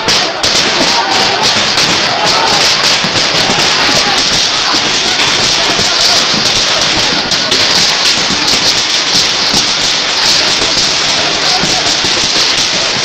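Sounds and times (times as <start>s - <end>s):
large crowd clamour: 0.0s - 13.0s.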